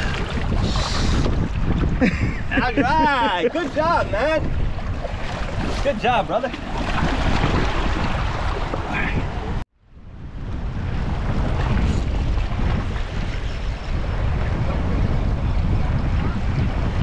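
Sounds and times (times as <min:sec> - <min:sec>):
ocean waves: 0:00.0 - 0:17.0
wind buffeting microphone: 0:00.0 - 0:17.0.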